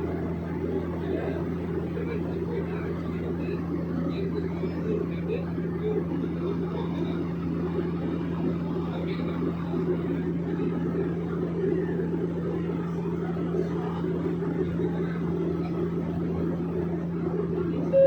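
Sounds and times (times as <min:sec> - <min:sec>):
propeller airplane cabin drone: 0:00.0 - 0:18.0.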